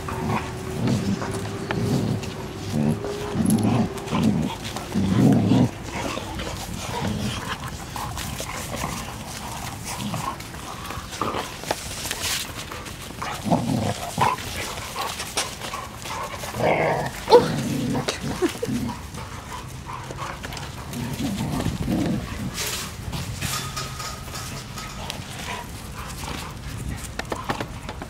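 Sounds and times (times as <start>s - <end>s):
dogs play growling and grunting: 0.0s - 28.0s.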